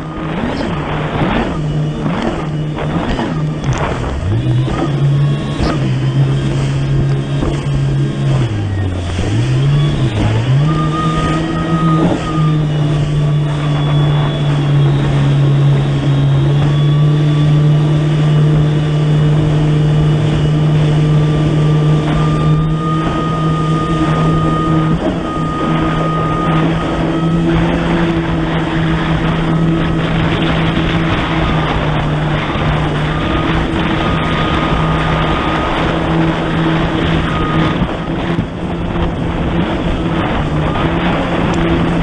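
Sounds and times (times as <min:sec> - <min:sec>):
jet ski engine at speed: 0:00.0 - 0:42.0
rushing water: 0:00.0 - 0:42.0
wind: 0:00.0 - 0:42.0.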